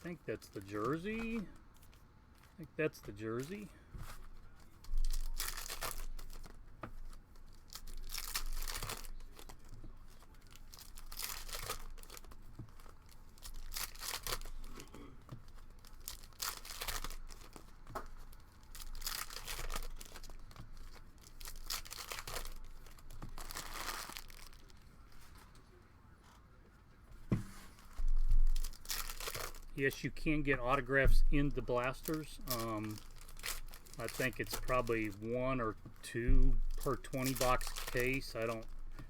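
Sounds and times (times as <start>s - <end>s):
packaging tearing and crinkling: 0.0s - 2.5s, 3.1s - 14.8s, 15.4s - 24.9s, 27.8s - 30.0s, 31.4s - 35.3s, 36.7s - 38.9s.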